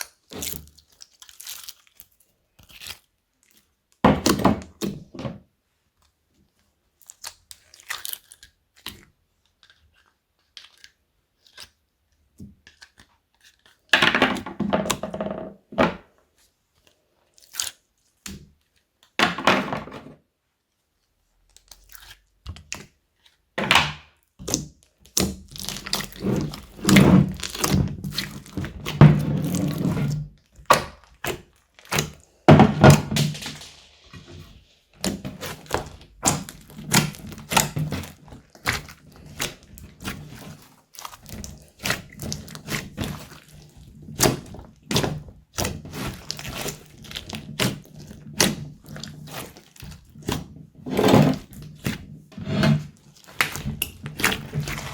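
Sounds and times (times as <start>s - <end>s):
slime squishing: 0.0s - 4.0s, 6.5s - 13.9s, 16.4s - 19.2s, 20.8s - 54.9s
hands kneading slime: 0.0s - 13.9s, 16.2s - 19.2s, 20.6s - 54.9s.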